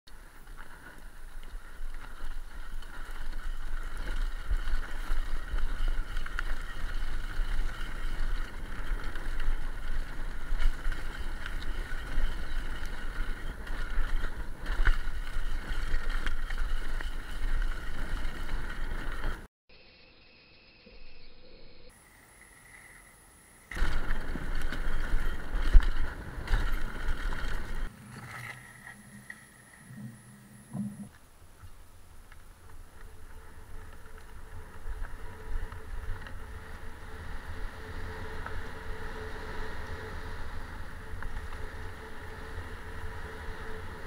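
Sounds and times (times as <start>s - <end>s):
bike tyres rattling on trail: 0.1s - 19.5s, 23.6s - 44.0s.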